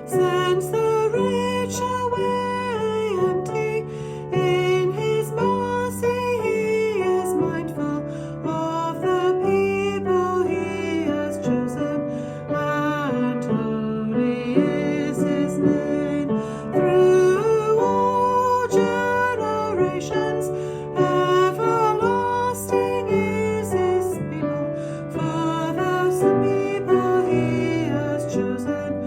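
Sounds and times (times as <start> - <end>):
person singing a hymn: 0.0 - 29.0
piano accompaniment: 0.0 - 29.0.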